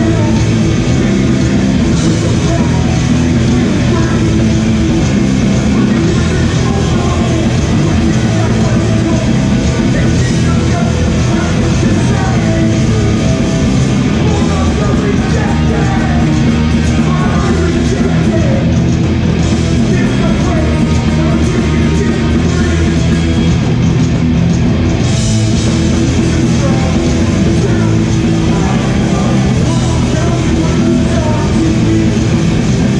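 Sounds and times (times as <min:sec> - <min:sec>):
person singing: 0:00.0 - 0:18.8, 0:19.8 - 0:23.3, 0:25.6 - 0:32.9
punk band playing live: 0:00.0 - 0:32.9.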